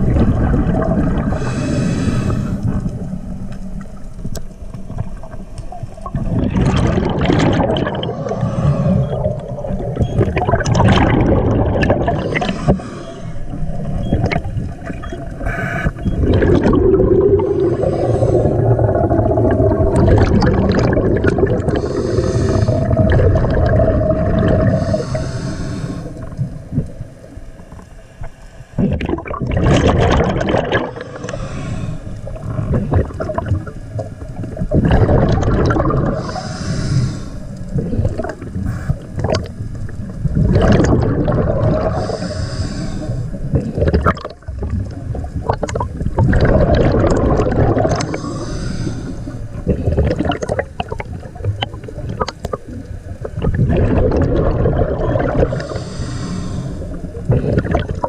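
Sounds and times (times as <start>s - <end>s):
underwater bubbles gurgling: 0.0s - 58.0s.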